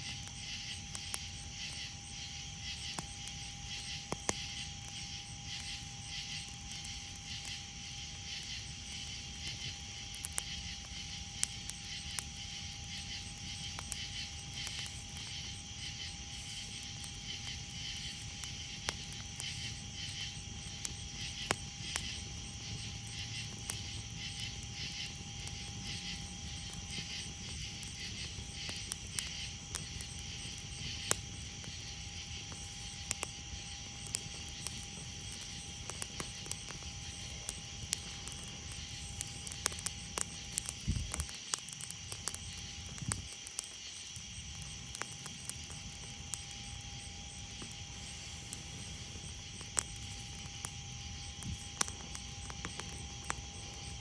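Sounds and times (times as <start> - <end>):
campfire crackling and popping: 0.0 - 54.0
night insects chirping: 0.0 - 54.0.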